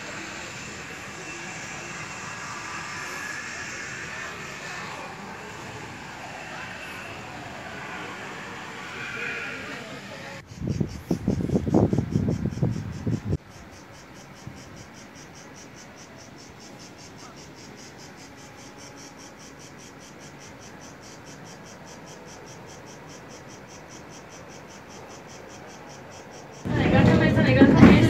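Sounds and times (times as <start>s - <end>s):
insects chirping: 0.0s - 28.0s
low irregular noise: 0.0s - 28.0s.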